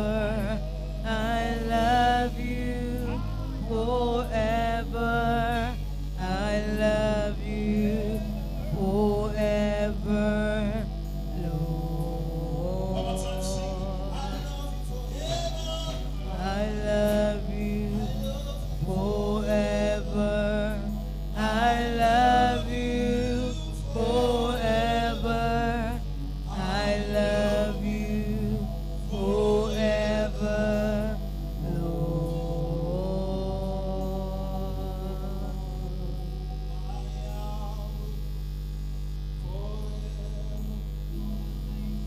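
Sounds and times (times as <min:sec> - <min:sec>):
group singing a worship song: 0:00.0 - 0:38.5, 0:39.1 - 0:42.0
electrical hum: 0:00.0 - 0:42.0.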